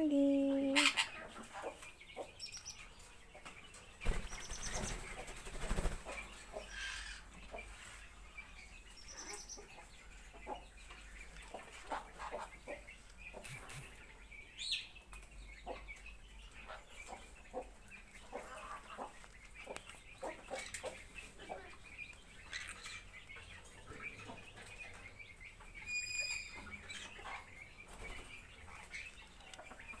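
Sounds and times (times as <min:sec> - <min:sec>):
birds calling and chirping: 0:00.0 - 0:30.0.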